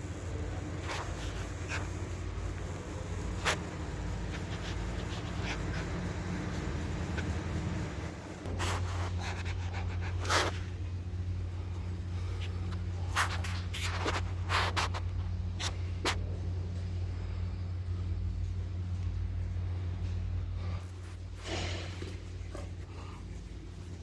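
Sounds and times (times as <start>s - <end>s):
truck engine humming: 0.0s - 20.8s.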